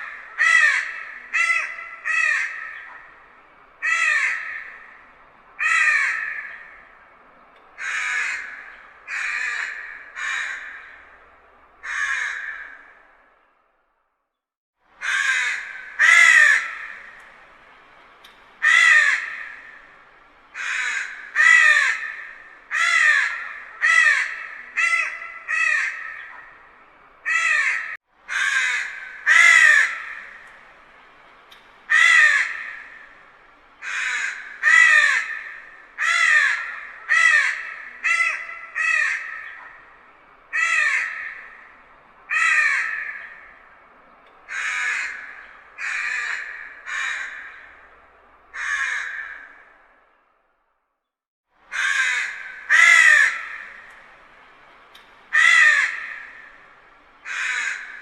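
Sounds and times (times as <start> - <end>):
crows cawing: 0.0 - 13.4, 15.0 - 50.1, 51.7 - 58.0.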